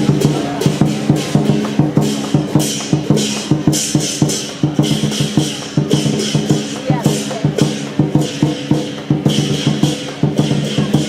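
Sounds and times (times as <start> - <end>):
drum beaten in fast rhythm: 0.0 - 11.0
metal percussion crashes: 0.0 - 11.0.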